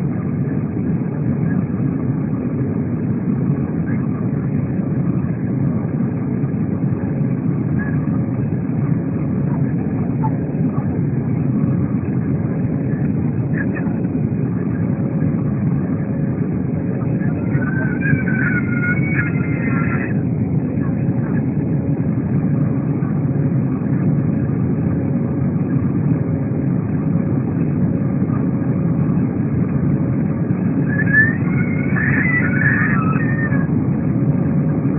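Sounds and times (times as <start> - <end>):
faint constant hum: 0.0 - 34.9
jet engines rumbling: 0.0 - 34.9.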